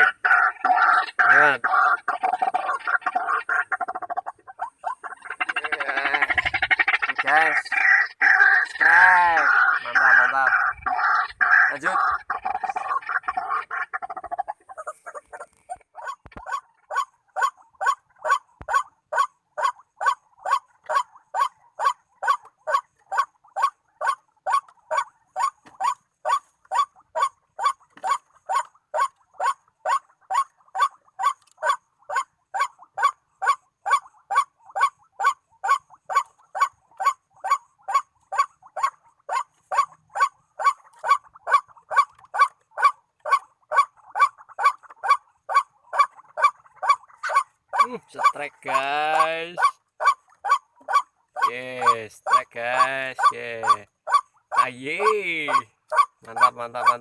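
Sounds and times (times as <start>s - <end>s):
waterhen call: 0.0s - 57.0s.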